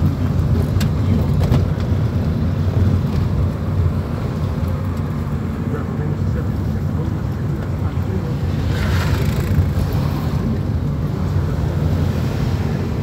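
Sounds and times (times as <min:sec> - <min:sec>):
car cabin engine and tyre rumble: 0:00.0 - 0:13.0.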